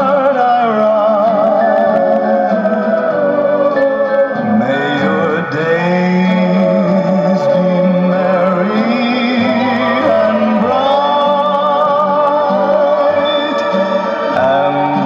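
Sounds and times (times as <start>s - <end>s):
song with vibrato singing: 0.0s - 15.0s.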